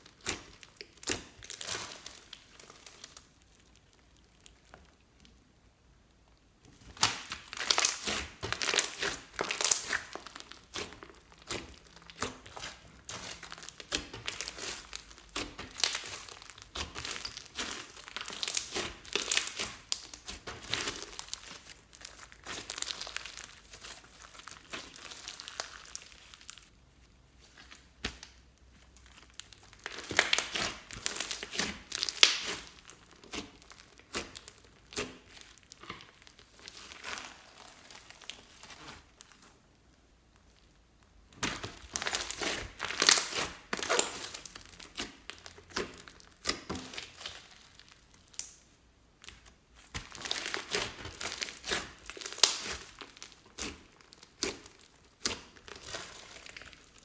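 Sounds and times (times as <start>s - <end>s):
hands kneading sticky slime: 0.0s - 57.0s.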